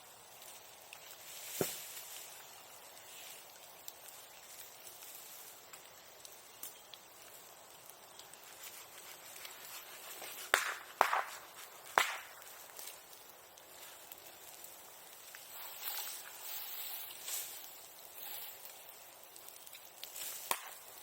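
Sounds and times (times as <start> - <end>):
bonfire crackling: 0.0 - 21.0
sharp pops from fire: 0.2 - 21.0.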